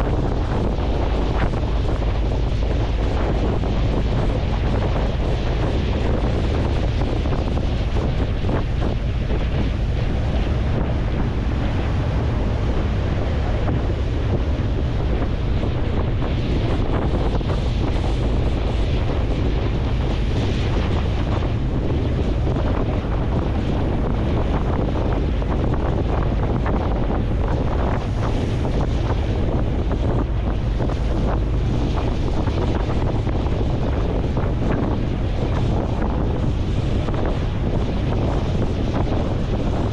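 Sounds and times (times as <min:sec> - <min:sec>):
deep ferry noise: 0:00.0 - 0:39.9
rushing water: 0:00.0 - 0:39.9
wind buffeting microphone: 0:00.0 - 0:39.9.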